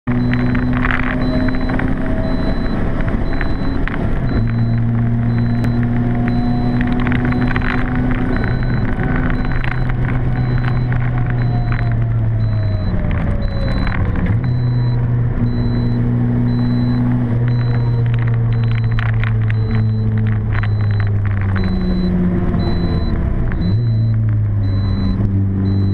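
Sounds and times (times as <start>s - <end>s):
car engine drone inside cabin: 0.0s - 25.9s
road and tyre noise: 0.0s - 25.9s.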